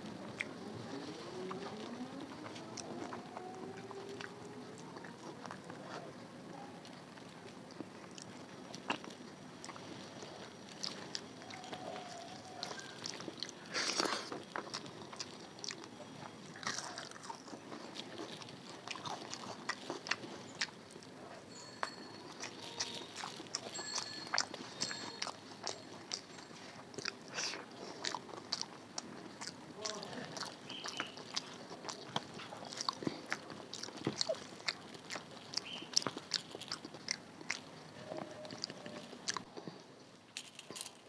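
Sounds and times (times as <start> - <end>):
rustle: 0.0 - 41.0
person chewing: 0.2 - 6.2, 6.8 - 39.8.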